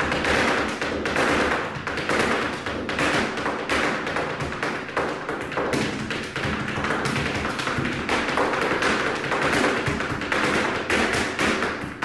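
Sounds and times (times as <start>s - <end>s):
dance shoes tapping and stamping: 0.0s - 12.0s.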